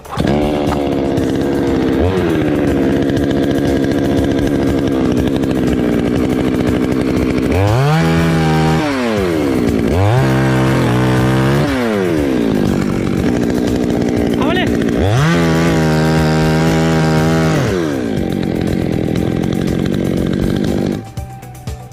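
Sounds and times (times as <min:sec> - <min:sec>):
chainsaw running: 0:00.0 - 0:21.9.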